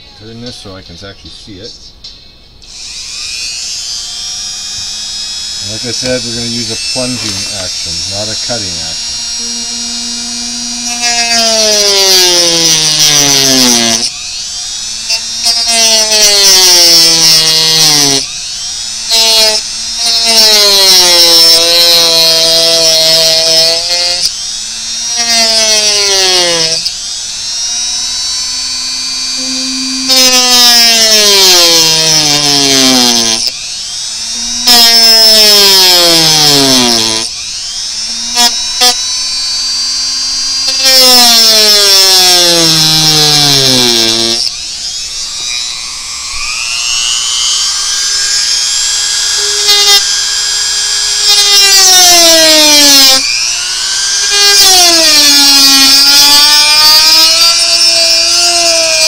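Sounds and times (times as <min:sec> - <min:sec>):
rotary tool cutting plastic: 0:02.6 - 0:59.0.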